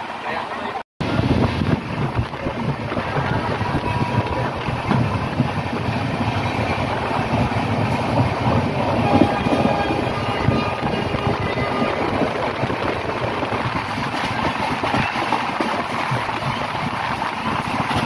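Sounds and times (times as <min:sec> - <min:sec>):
train wheels rumbling and rattling: 0:01.0 - 0:18.0.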